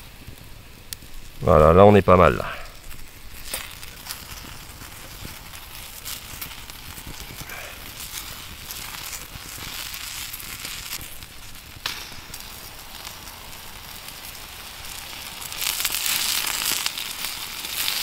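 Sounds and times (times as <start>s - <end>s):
oil sizzling on hot plate: 0.0s - 18.0s
potato slices sizzling: 0.0s - 18.0s
wood fire crackling: 0.0s - 18.0s.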